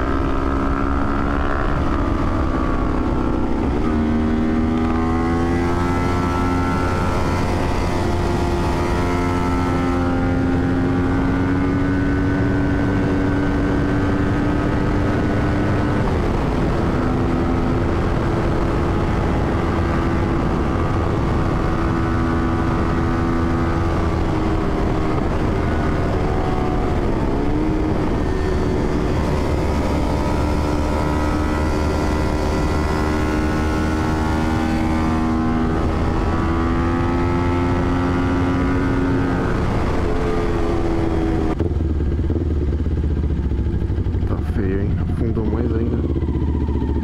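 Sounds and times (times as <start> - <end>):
motorcycle engine running: 0.0 - 47.0
wind rumble on microphone: 0.0 - 47.0.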